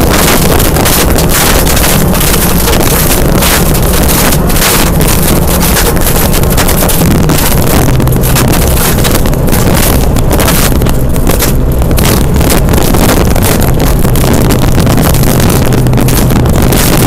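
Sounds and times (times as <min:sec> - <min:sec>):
gravel road noise: 0:00.0 - 0:17.0
rally car engine running hard: 0:00.0 - 0:17.0
stones rattling under car: 0:00.0 - 0:17.0.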